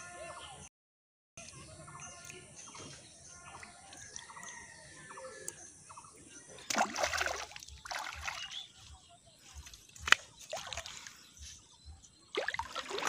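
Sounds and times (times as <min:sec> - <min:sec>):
birds chirping and calling: 0:01.4 - 0:13.0.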